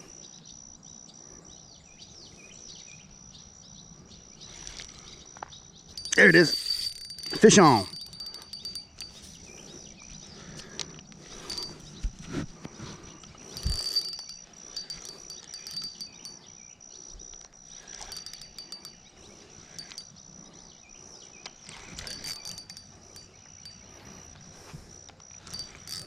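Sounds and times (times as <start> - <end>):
high insect trill: 1.8 - 26.0.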